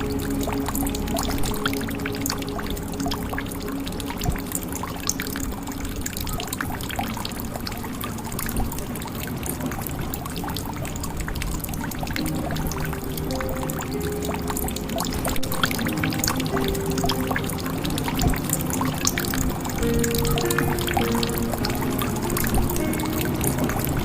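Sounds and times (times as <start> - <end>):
soft musical drone: 0.0 - 24.0.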